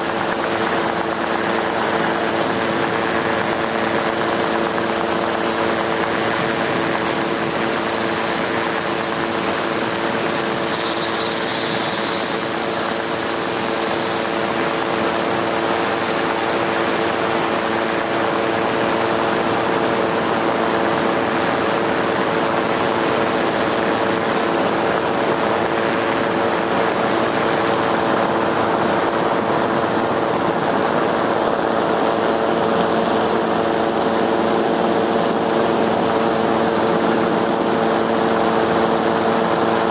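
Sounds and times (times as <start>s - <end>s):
faint high whine: 0.0s - 39.9s
helicopter engine and rotor drone: 0.0s - 39.9s.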